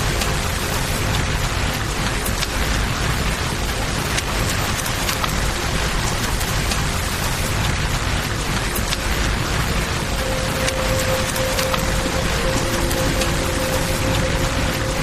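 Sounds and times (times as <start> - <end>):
campfire crackling and popping: 0.0 - 15.0
flowing river water: 0.0 - 15.0
rain hiss: 0.0 - 15.0.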